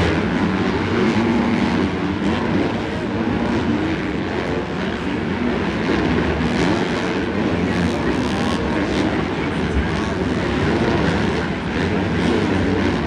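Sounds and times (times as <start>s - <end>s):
dirt bike engines racing: 0.0s - 13.0s.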